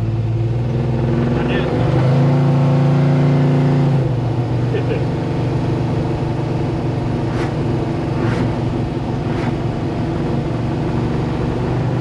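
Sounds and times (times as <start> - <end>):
truck engine cruising from cab: 0.0 - 12.0.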